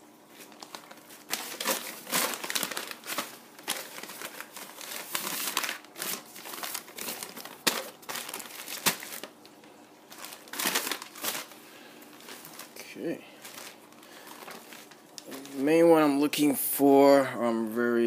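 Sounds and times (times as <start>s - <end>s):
paper and plastic bags crinkling: 0.3s - 16.5s.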